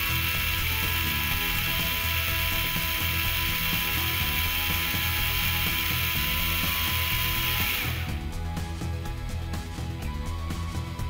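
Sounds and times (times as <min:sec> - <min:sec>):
motor whirring with gear rasp: 0:00.0 - 0:09.4.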